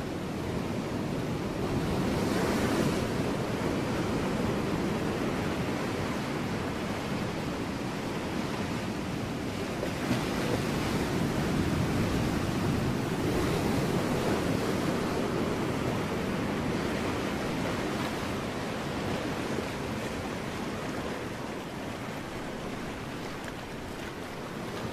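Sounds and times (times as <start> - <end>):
ocean waves washing against rocks: 0.0 - 24.9.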